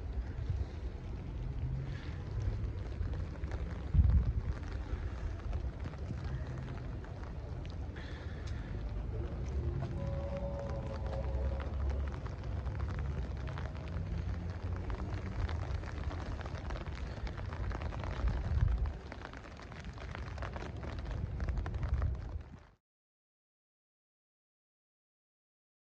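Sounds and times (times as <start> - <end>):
heavy rain falling: 0.0 - 22.7
low rumble on microphone: 0.0 - 22.8.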